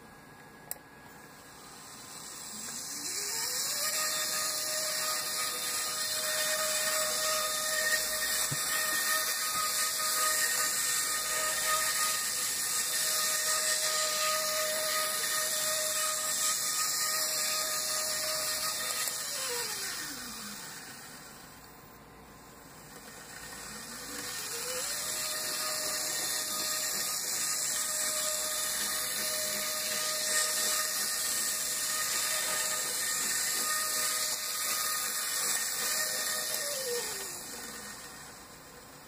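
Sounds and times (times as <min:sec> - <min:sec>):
model train motor whine: 0:01.2 - 0:21.7, 0:22.4 - 0:39.0.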